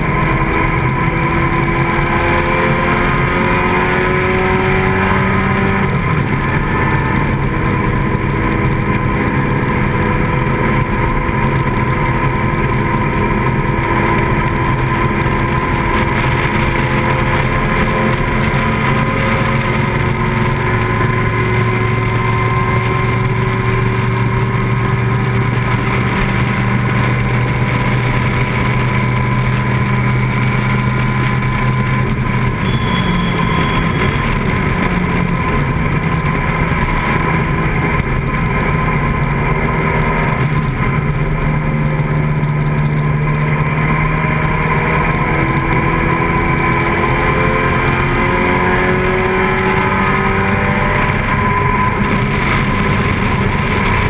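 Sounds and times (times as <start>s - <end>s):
racing car engine at speed: 0.0s - 54.0s.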